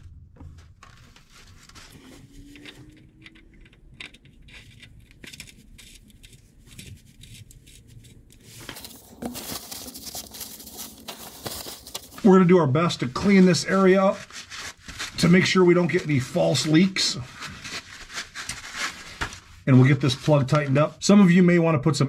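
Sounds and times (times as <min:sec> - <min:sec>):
paper towel rustling and crinkling: 0:00.4 - 0:03.0, 0:04.5 - 0:21.5.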